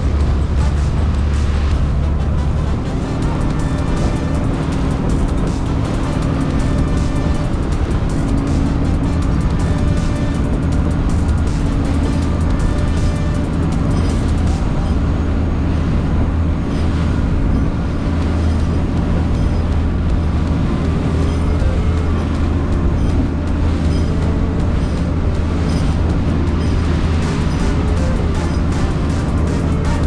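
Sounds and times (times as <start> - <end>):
boat engine running steadily: 0.0 - 30.0.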